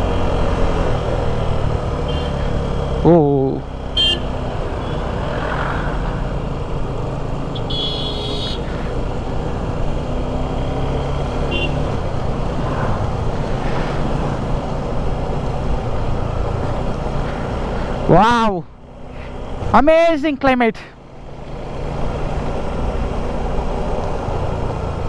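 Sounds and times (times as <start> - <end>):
motorcycle engine running: 0.0 - 20.1
wind and road noise: 0.0 - 25.0.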